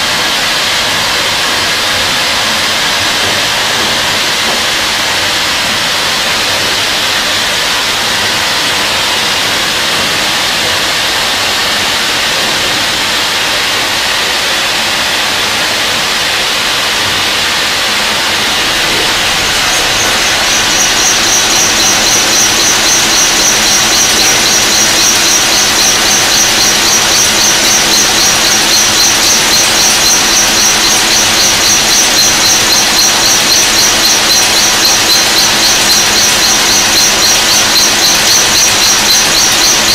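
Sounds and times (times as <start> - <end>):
high-pitched squeal: 0.1 - 39.9.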